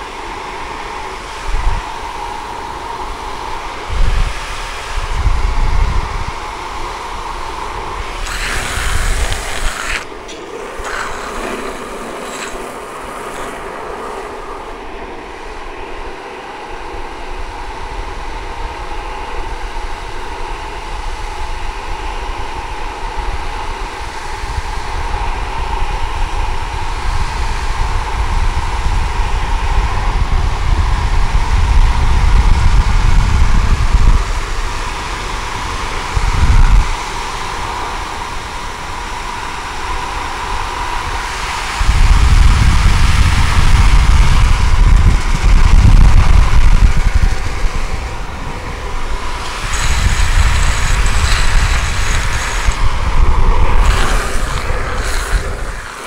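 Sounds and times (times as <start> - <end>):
skateboard wheels rumbling on asphalt: 0.0 - 56.0
wind rushing over microphone: 0.0 - 56.0.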